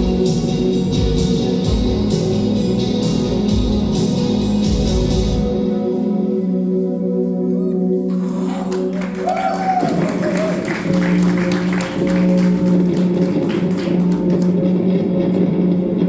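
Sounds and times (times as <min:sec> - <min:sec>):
loud live music: 0:00.0 - 0:05.7, 0:08.1 - 0:16.0.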